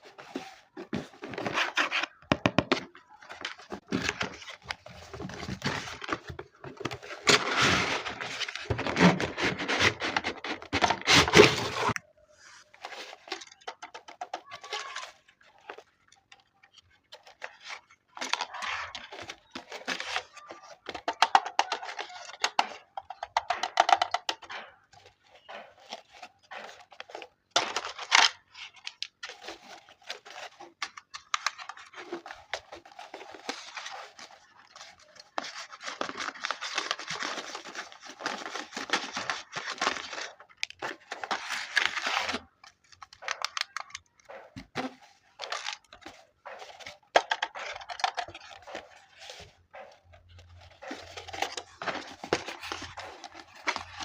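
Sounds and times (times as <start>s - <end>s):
toy packaging crinkling and tearing: 0.0s - 54.0s.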